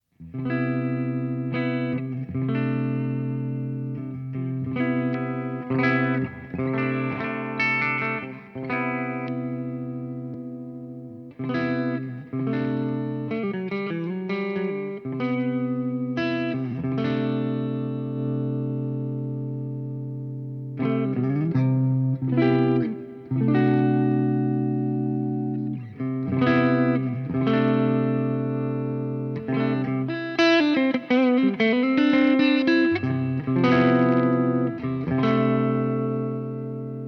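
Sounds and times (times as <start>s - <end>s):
overdriven electric guitar chords: 0.0s - 37.0s.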